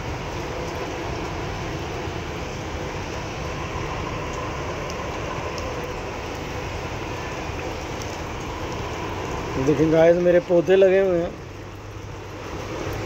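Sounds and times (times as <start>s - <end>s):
rain on wet street: 0.0s - 13.0s.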